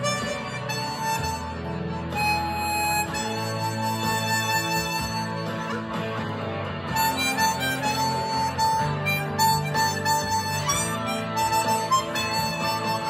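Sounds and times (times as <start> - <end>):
chromatic harmonica melody: 0.0 - 13.0.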